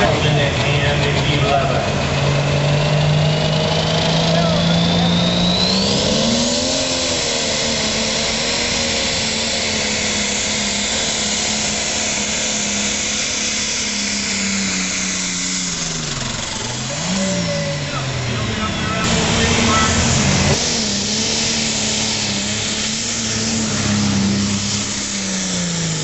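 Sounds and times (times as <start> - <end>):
tractor engine at full load: 0.0 - 26.0
turbo rush and whine: 0.0 - 26.0.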